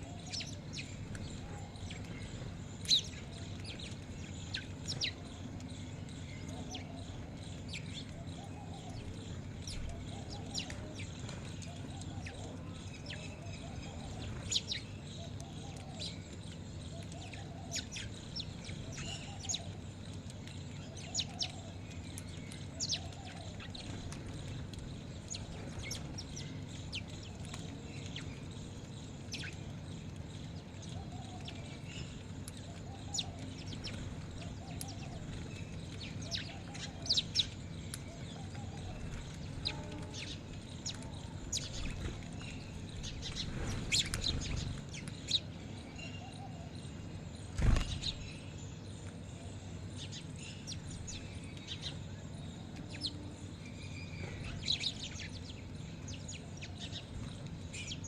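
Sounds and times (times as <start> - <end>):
caged birds chirping: 0.0 - 58.0
steady low hum: 0.0 - 58.0.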